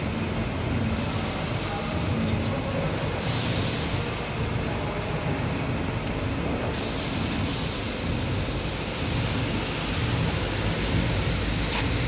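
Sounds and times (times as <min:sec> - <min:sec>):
wire mesh machinery running: 0:00.0 - 0:12.0.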